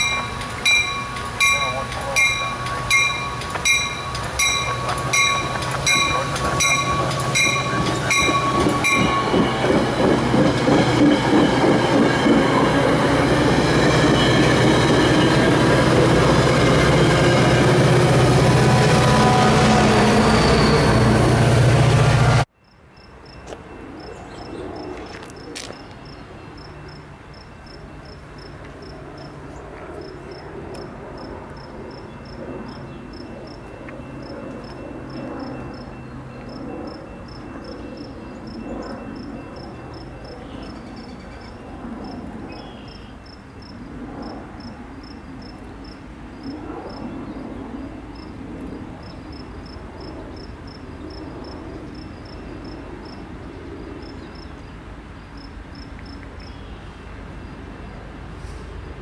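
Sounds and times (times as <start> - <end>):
crickets chirping: 0.0 - 19.4, 22.6 - 48.4, 49.0 - 58.0
distant freight train rumble: 0.0 - 59.0
passing train: 0.0 - 59.0.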